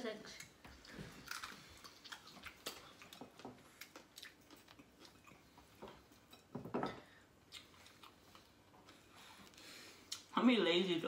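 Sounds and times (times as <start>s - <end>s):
people chewing food: 0.2s - 10.3s.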